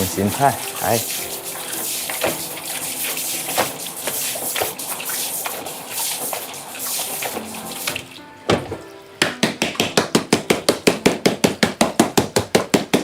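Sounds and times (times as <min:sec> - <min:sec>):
tap water running: 0:00.0 - 0:12.3.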